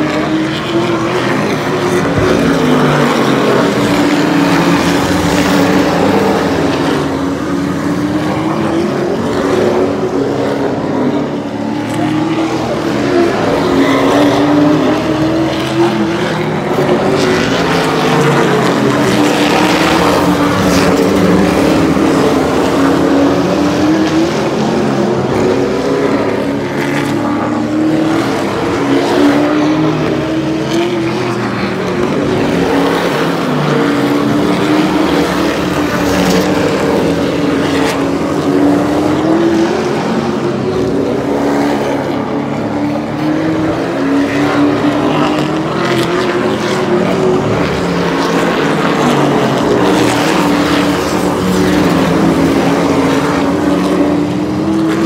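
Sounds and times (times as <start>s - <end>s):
race car engines at full throttle: 0.0s - 55.0s.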